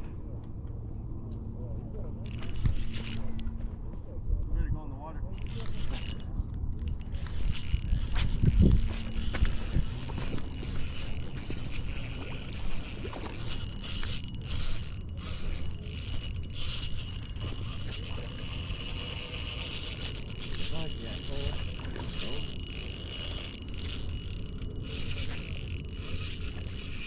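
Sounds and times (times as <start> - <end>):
fishing reel being cranked: 2.2 - 3.5, 5.3 - 27.0.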